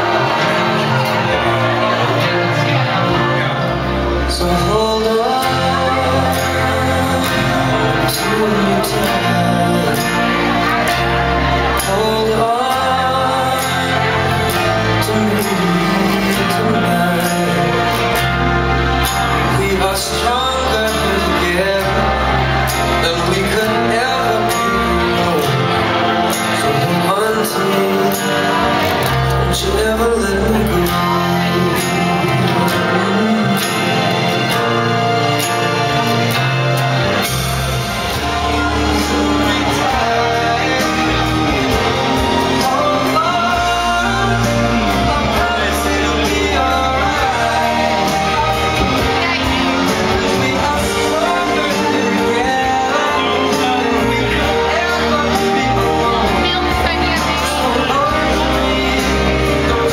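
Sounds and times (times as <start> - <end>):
person singing: 0.0 - 59.9
pop song: 0.0 - 59.9.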